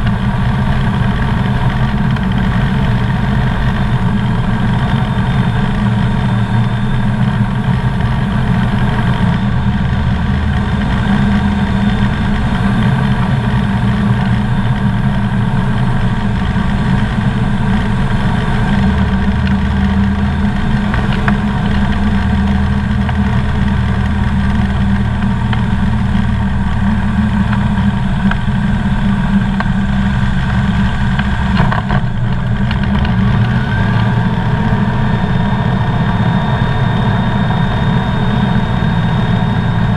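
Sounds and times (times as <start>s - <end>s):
aircraft engine and propeller droning: 0.0s - 39.9s
wheels bumping on runway: 0.0s - 39.9s.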